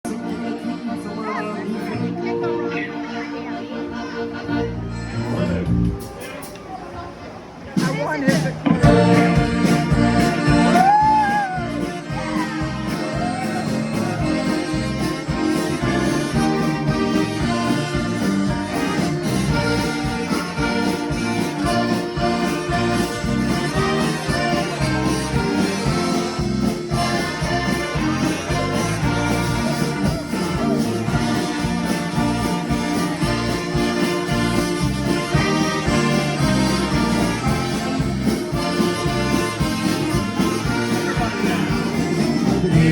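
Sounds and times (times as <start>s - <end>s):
accordion band music: 0.0s - 42.9s.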